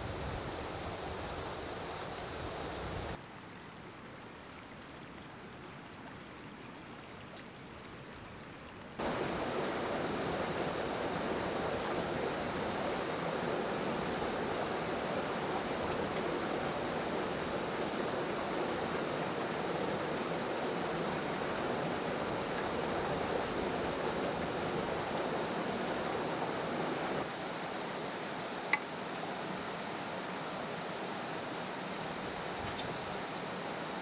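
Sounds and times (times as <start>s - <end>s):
stream rushing: 0.3s - 34.0s.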